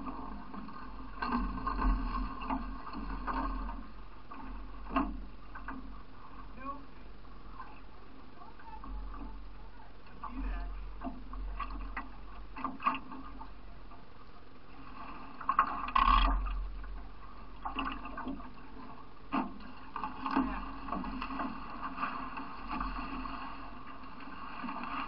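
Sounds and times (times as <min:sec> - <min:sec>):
water splashing around paddled canoe: 0:00.0 - 0:07.6, 0:08.2 - 0:25.0.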